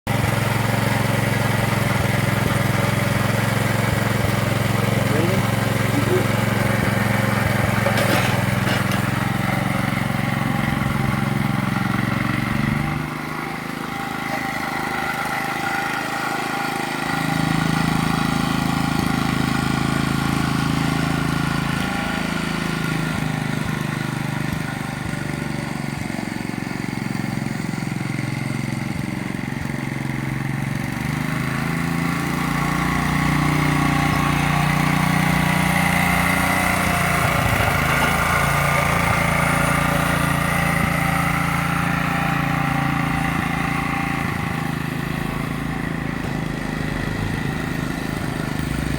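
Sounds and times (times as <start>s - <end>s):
small tractor engine running: 0.0s - 48.9s.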